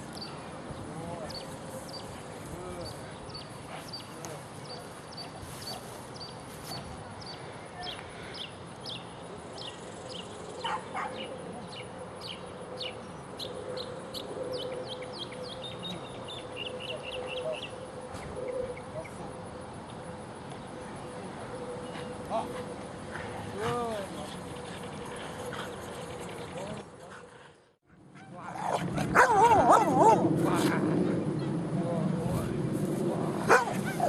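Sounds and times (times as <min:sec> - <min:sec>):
birds chirping: 0:00.0 - 0:27.8.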